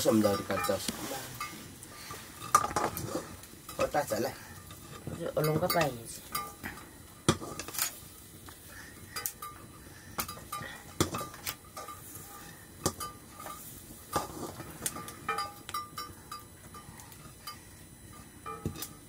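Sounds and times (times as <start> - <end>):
utensil scraping metal pot: 0.0 - 19.0.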